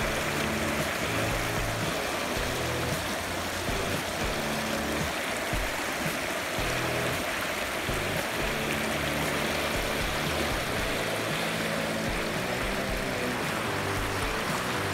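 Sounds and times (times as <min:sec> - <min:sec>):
low background music: 0:00.0 - 0:14.9
stream splashing over rocks: 0:00.0 - 0:14.9.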